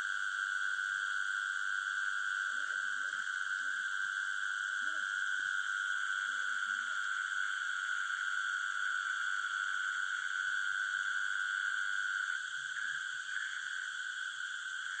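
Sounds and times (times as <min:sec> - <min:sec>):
insects calling: 0:00.0 - 0:15.0.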